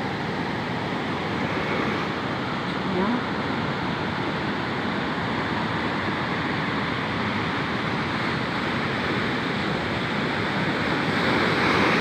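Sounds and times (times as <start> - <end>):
sea surf washing against shore: 0.0 - 12.0.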